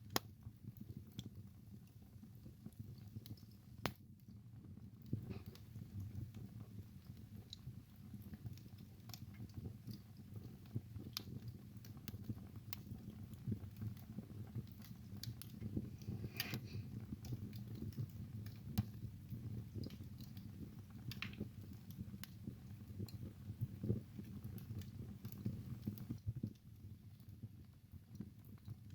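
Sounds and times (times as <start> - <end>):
low rumble of burning logs: 0.0 - 28.9
wood fire crackling and popping: 0.0 - 28.9.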